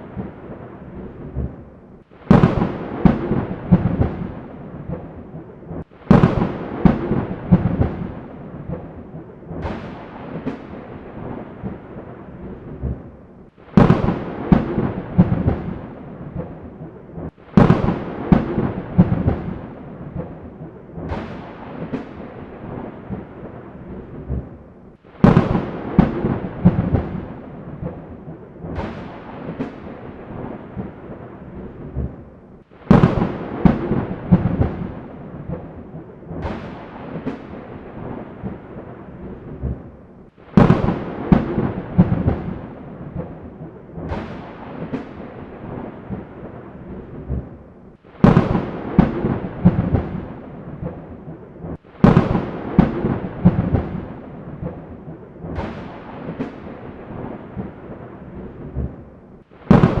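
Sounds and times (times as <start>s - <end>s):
steady storm noise: 0.0s - 60.0s
thunder cracking and rumbling: 0.0s - 60.0s.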